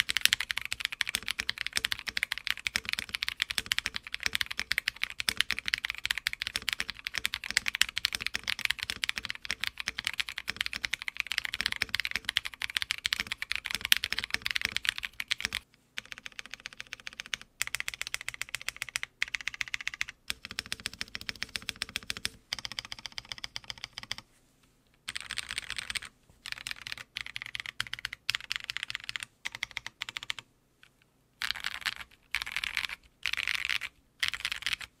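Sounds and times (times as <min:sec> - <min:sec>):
mechanical keyboard typing: 0:00.0 - 0:24.2, 0:25.0 - 0:30.4, 0:31.4 - 0:34.9.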